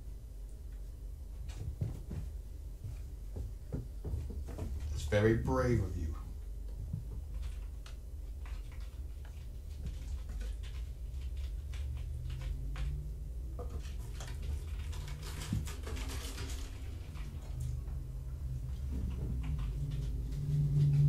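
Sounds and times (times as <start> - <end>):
paws tapping and pattering: 0.7 - 5.1, 6.2 - 21.0.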